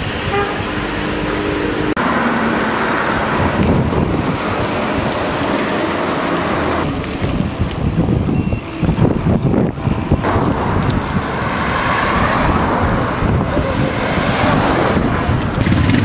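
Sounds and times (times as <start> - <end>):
rush of road traffic: 0.0 - 16.0.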